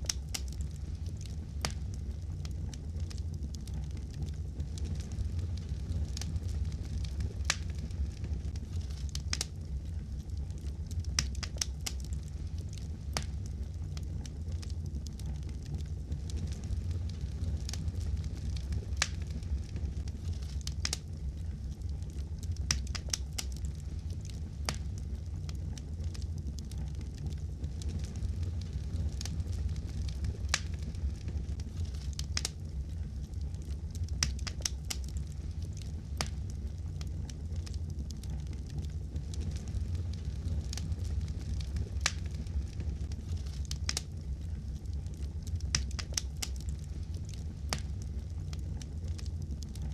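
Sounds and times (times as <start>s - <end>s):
low rumble of flames: 0.0s - 49.9s
wood fire crackling: 0.0s - 49.9s.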